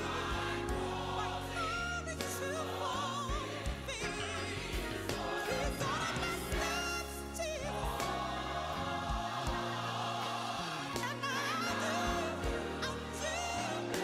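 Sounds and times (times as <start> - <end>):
bass and drums: 0.0 - 10.2, 10.9 - 14.0
gospel choir singing: 0.0 - 14.0.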